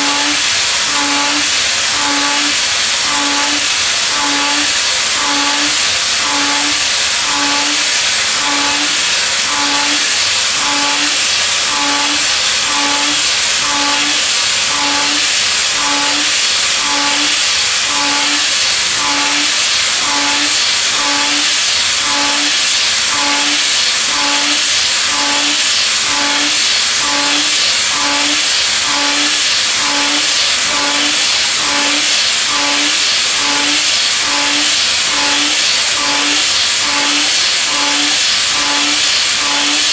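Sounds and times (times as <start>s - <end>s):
milling machine hiss: 0.0s - 39.9s
pulsing machine hum: 0.0s - 39.9s.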